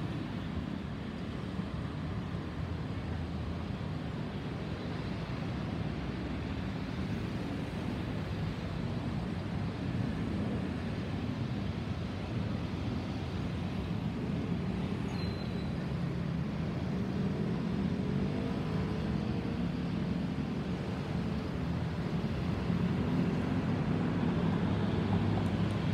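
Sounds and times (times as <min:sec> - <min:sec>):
airliner engines rumbling overhead: 0:00.0 - 0:25.9.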